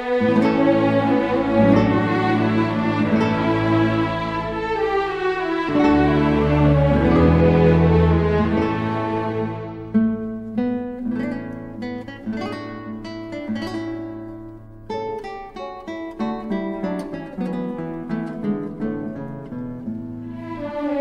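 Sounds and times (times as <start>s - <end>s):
acoustic guitar plucking melody: 0.0s - 21.0s.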